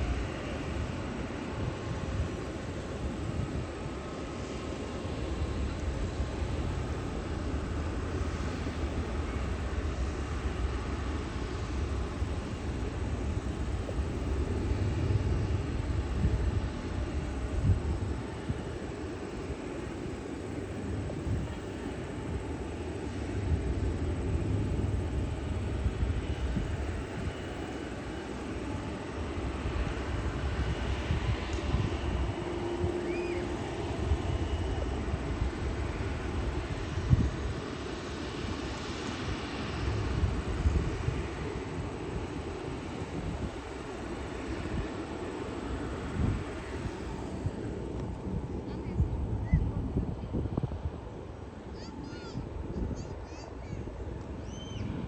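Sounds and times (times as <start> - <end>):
jet airliner rumble: 0.0 - 55.0.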